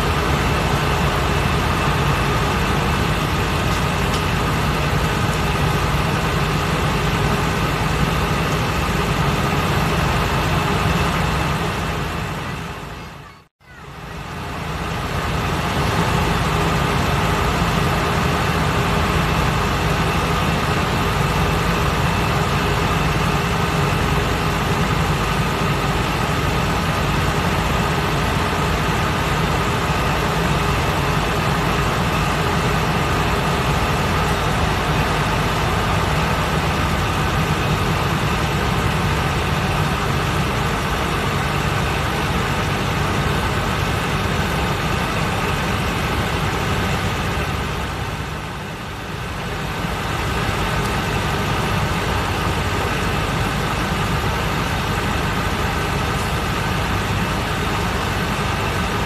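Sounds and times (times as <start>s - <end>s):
bus engine rumble: 0.0s - 59.0s
road and cabin noise: 0.0s - 59.0s.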